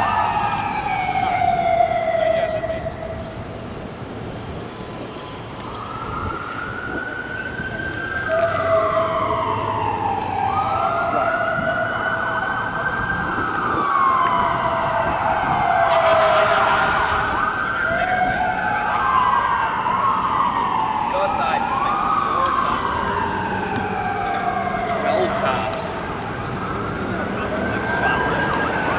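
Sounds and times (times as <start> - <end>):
sirens wailing: 0.0 - 28.9.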